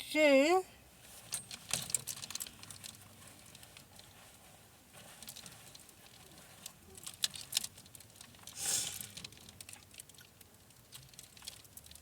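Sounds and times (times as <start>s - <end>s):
clothes rustling: 0.3s - 10.0s.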